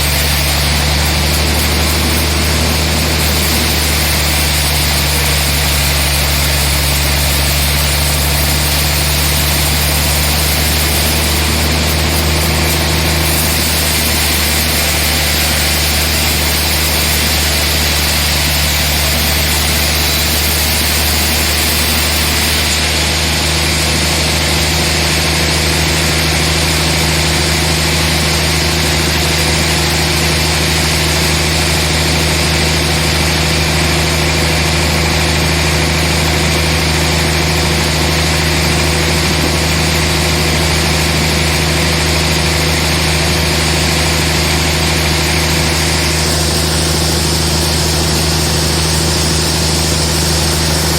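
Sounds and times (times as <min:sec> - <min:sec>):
sawmill machinery drone: 0:00.0 - 0:50.9
wide noisy hiss: 0:00.0 - 0:50.9.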